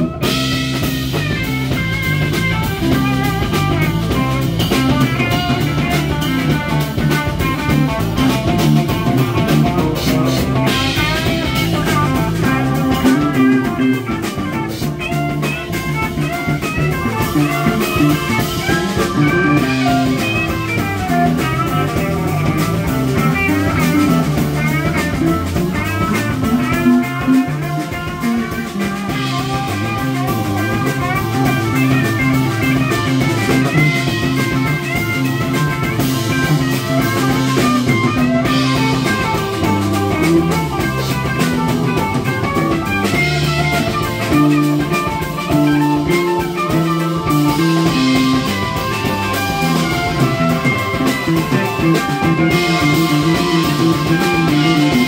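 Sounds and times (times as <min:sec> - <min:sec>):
drum kit with cymbals: 0:00.0 - 0:55.0
electric bass line: 0:00.0 - 0:55.0
electric guitar: 0:00.0 - 0:55.0
keyboard: 0:00.0 - 0:55.0.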